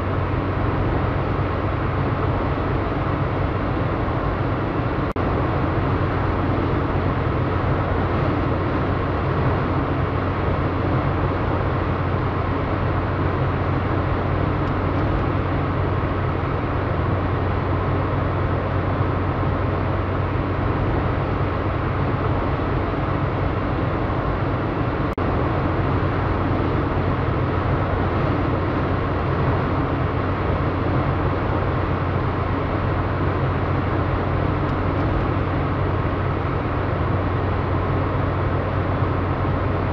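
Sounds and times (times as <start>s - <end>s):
car road noise at highway speed: 0.0s - 39.9s.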